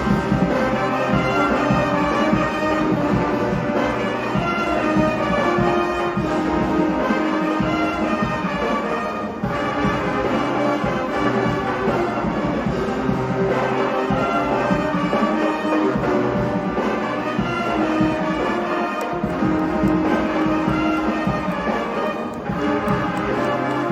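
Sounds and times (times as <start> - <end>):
brass band playing: 0.0 - 23.9
trombones and trumpets holding notes: 0.0 - 23.9.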